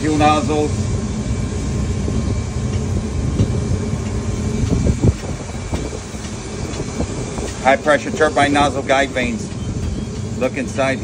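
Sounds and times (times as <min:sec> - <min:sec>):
faint high whine: 0:00.0 - 0:11.0
low background rumble: 0:00.0 - 0:11.0.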